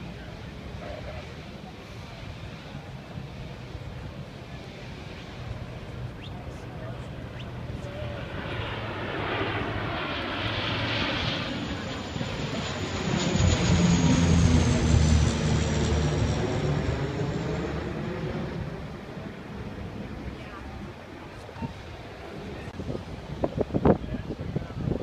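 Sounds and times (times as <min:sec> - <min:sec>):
airplane engines flying past: 0:00.0 - 0:25.0.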